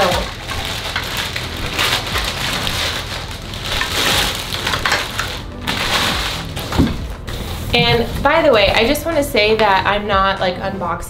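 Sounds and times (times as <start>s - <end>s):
plastic wrapping crinkling: 0.0s - 9.8s.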